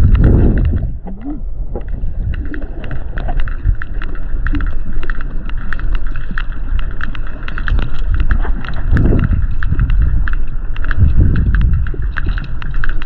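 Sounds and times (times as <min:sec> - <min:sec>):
low water rumble: 0:00.0 - 0:13.0
whales clicking underwater: 0:00.0 - 0:13.0.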